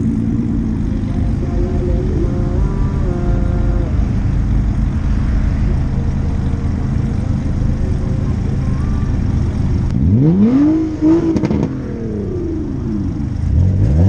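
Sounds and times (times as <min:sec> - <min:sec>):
car engine revving: 0:00.0 - 0:14.0
low rumble of engines and road: 0:00.0 - 0:14.0.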